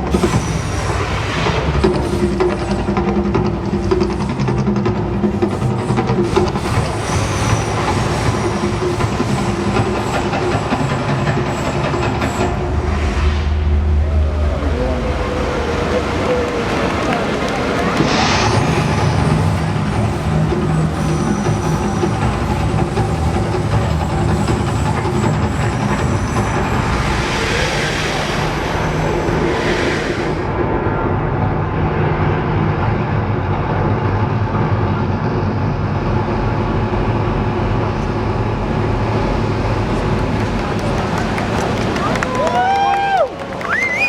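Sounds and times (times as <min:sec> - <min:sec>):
dense rumbling roar: 0:00.0 - 0:11.1, 0:12.0 - 0:44.0.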